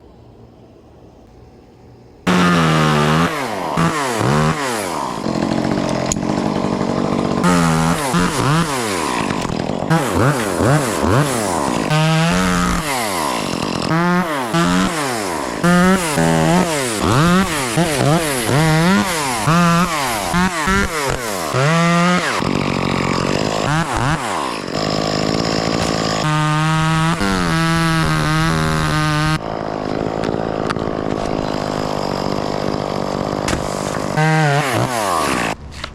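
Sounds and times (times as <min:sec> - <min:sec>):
chainsaw engine revving: 0:02.3 - 0:35.9.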